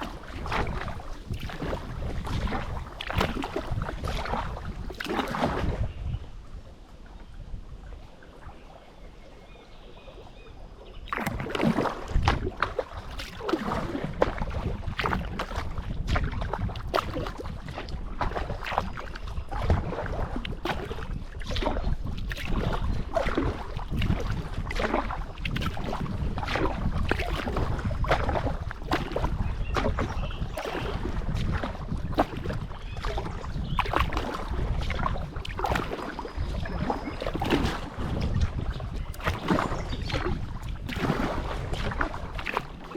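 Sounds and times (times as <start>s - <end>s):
paddle strokes splashing: 0.0s - 42.9s
water sloshing against boat: 0.0s - 42.9s.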